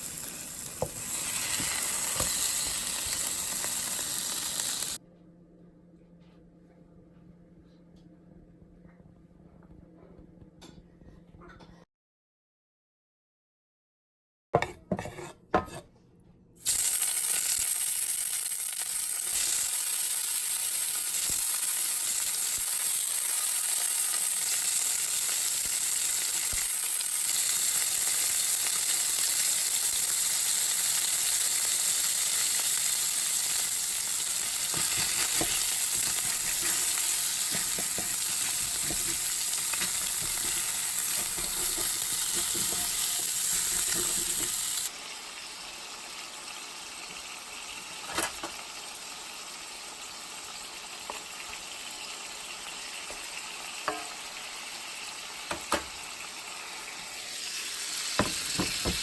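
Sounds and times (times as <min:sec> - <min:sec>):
food sizzling in a pan: 0:00.0 - 0:05.0, 0:16.6 - 0:59.0.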